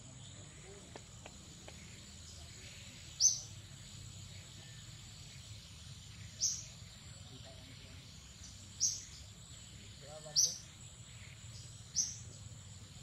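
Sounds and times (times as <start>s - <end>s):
high-pitched insect drone: 0.1s - 13.0s
sharp bird chirps: 0.1s - 13.0s.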